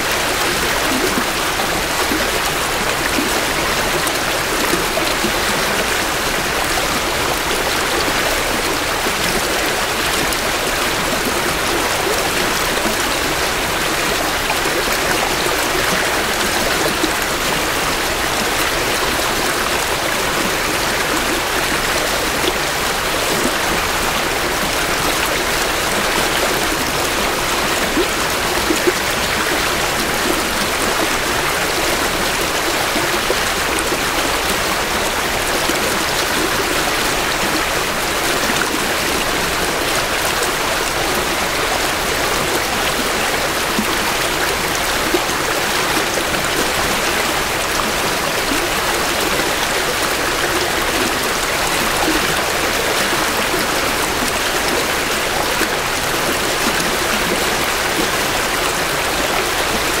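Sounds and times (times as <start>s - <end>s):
creek water flowing over rocks: 0.0s - 60.0s.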